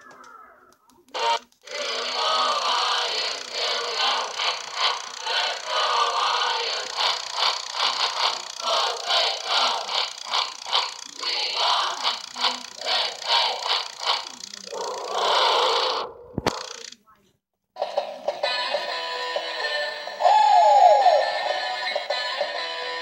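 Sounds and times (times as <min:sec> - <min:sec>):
tinny song from toy speaker: 0:00.0 - 0:16.9, 0:17.8 - 0:23.0
toy motor whirring and rattling: 0:01.1 - 0:17.0, 0:17.8 - 0:23.0.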